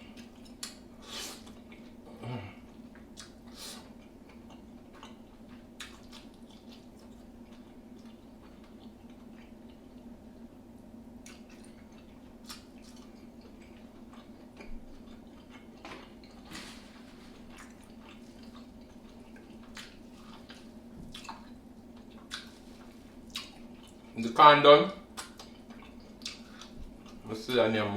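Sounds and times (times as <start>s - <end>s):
faint steady hum: 0.0s - 27.9s
chewing with wet smacks: 0.1s - 2.0s, 2.6s - 24.2s, 25.0s - 27.4s.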